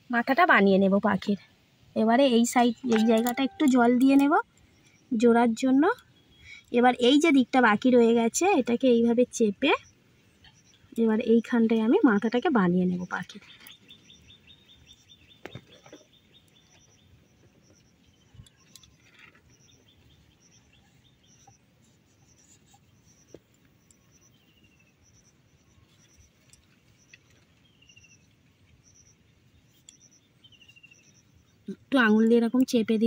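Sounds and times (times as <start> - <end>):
faint high insect chirps: 2.0 - 33.0.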